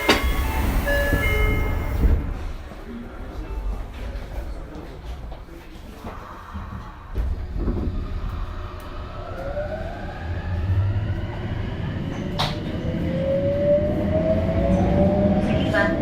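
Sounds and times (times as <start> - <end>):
subway train accelerating: 0.0 - 16.0.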